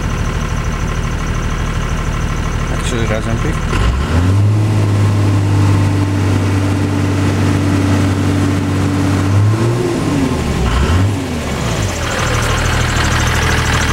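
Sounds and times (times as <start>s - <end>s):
diesel engine running: 0.0s - 13.9s
engine throttle blips: 0.0s - 13.9s.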